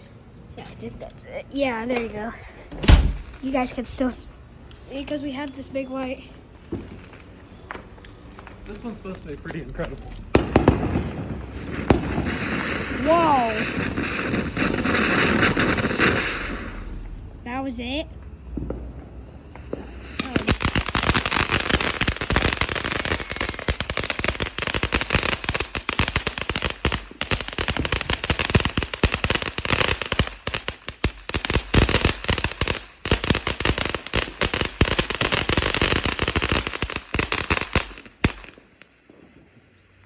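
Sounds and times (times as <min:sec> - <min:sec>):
fireworks cracking and popping: 0:00.6 - 0:17.3, 0:18.4 - 0:39.4.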